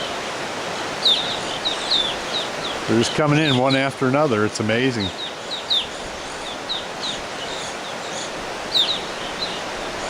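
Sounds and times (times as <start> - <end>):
birds chirping in a flock: 0.0 - 10.0
steady background hiss: 0.0 - 10.0.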